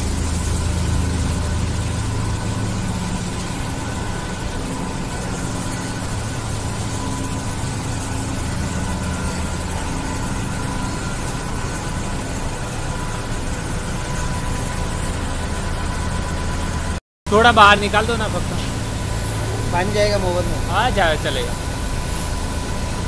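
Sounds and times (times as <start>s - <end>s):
hydro jetting pump humming: 0.0s - 23.0s.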